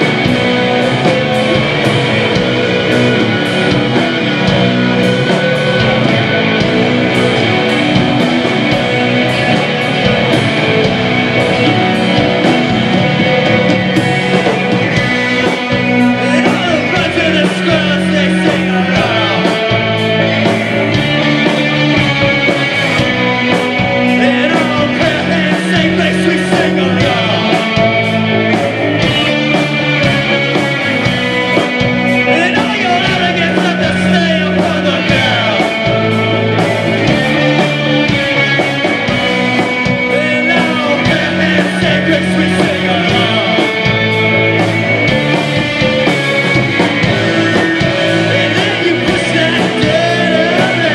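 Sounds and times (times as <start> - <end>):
bass guitar: 0.0 - 50.9
drums beating: 0.0 - 50.9
electric guitars: 0.0 - 50.9
person singing: 0.0 - 50.9.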